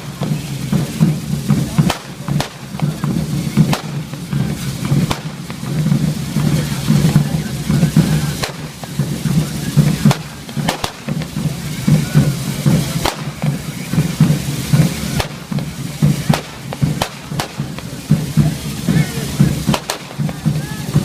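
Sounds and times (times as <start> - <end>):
firecracker bangs: 0.0 - 21.0
hiss of spraying sparks: 0.0 - 21.0
low rhythmic beat: 0.0 - 21.0.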